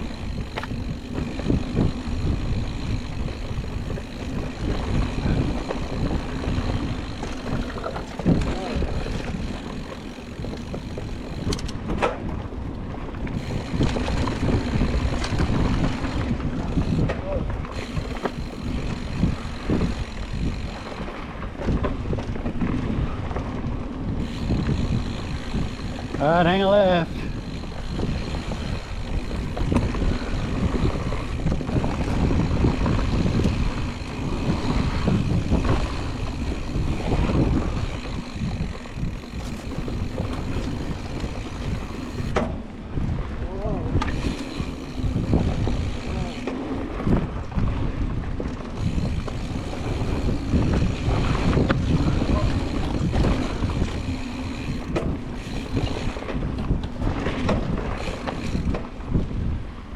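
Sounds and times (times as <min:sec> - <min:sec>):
bike clicks and rattles: 0:00.0 - 0:59.9
bike tyres rumbling on dirt: 0:00.0 - 0:59.9
wind buffeting microphone: 0:00.0 - 0:59.9.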